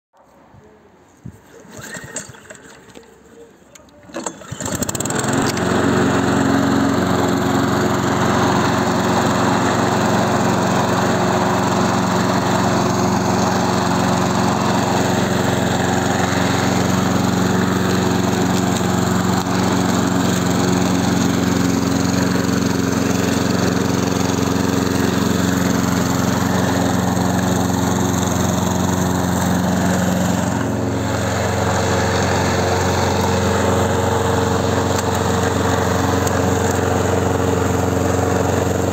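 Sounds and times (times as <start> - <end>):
lawn mower engine running: 1.6 - 38.9.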